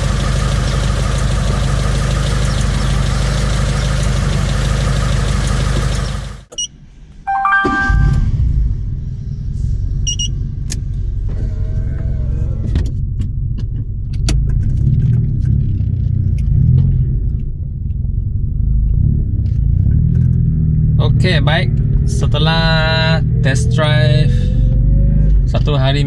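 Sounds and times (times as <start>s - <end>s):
car engine running: 0.0s - 7.0s, 8.0s - 24.2s.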